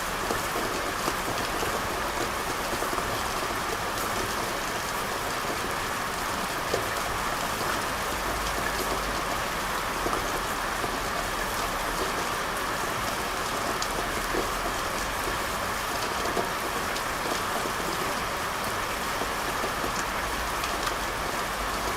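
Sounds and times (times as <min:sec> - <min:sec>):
rain on hard surfaces: 0:00.0 - 0:21.9.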